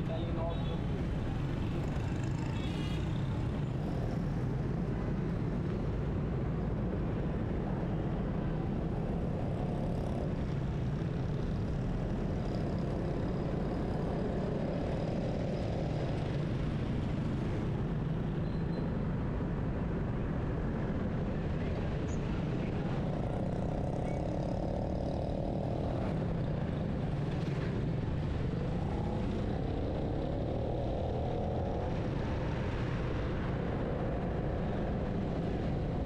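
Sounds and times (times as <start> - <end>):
car engine and tyre noise: 0.0 - 36.0
surrounding traffic: 0.0 - 36.0.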